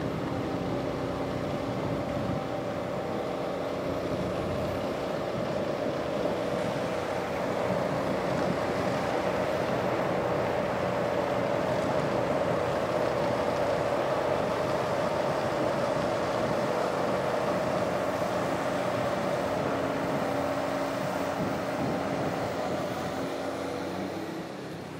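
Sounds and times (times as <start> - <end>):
snowblower engine whining: 0.0 - 24.9.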